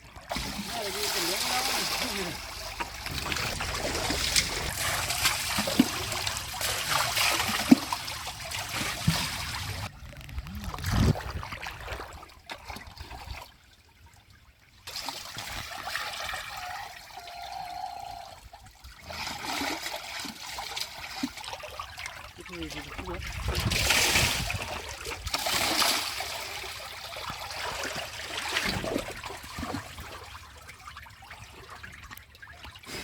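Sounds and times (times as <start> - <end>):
water splashing and trickling: 0.0 - 33.0.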